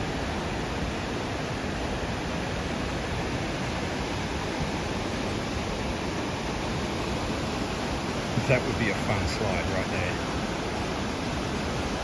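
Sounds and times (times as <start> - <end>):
creek rushing through boulders: 0.0 - 12.0.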